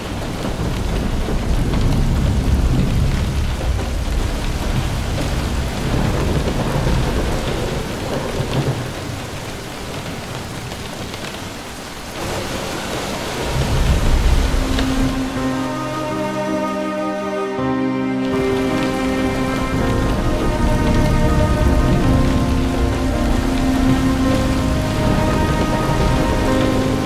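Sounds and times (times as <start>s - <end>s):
thunder rumbling: 0.0s - 16.4s, 18.2s - 27.0s
heavy rain pouring: 0.0s - 27.0s.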